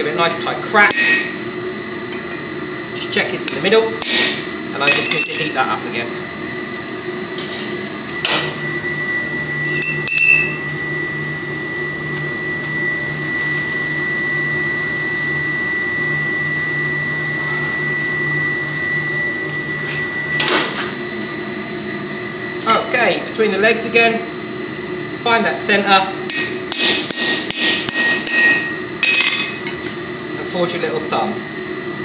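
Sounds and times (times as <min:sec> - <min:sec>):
forge blower running: 0:00.0 - 0:32.0.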